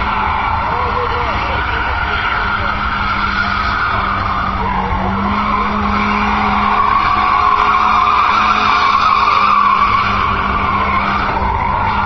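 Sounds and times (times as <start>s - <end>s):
car engine at steady revs: 0.0s - 12.0s
tyres squealing: 0.0s - 12.0s.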